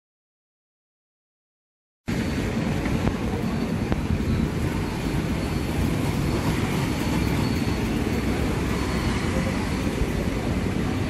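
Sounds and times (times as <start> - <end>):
bus diesel engine running: 2.1 - 11.0.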